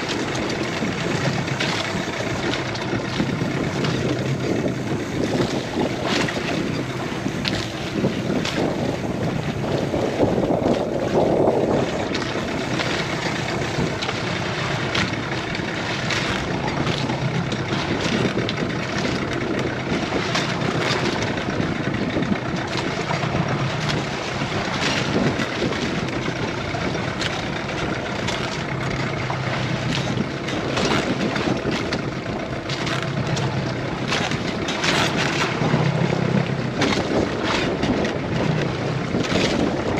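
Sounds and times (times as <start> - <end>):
boat engine running: 0.0 - 39.9
water splashes: 0.0 - 39.9
wind buffeting microphone: 0.0 - 39.9.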